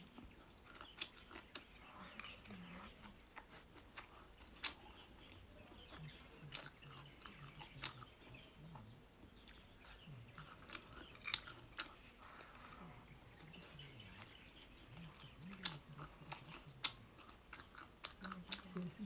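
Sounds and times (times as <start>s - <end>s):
person chewing crunchily: 0.0s - 19.0s.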